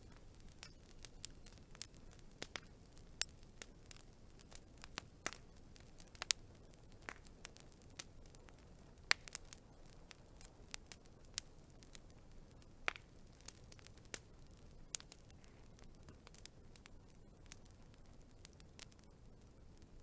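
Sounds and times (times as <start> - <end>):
faint low hiss: 0.0 - 20.0
wood fire crackling: 0.0 - 20.0.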